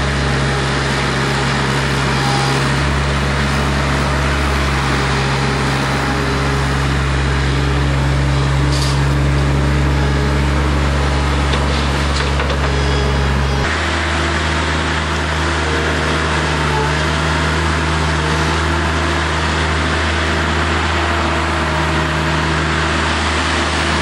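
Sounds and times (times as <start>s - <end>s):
loader engine running under load: 0.0s - 24.0s.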